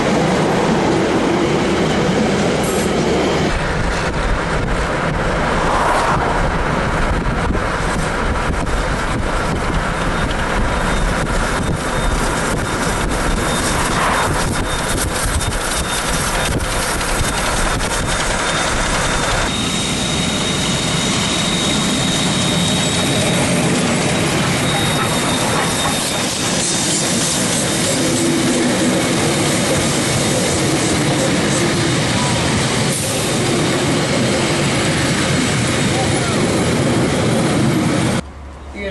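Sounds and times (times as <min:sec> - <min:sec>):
train wheels rumbling on rails: 0:00.0 - 0:38.7.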